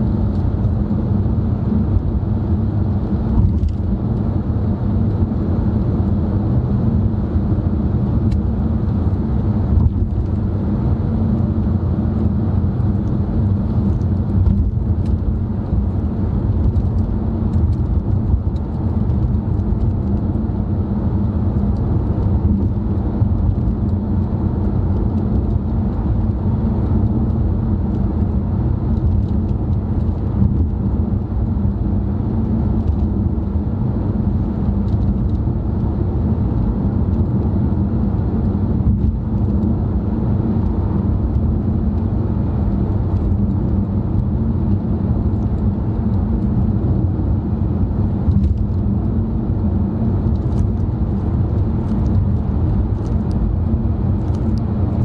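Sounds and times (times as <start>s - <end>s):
car road noise from inside cabin: 0.0s - 55.0s.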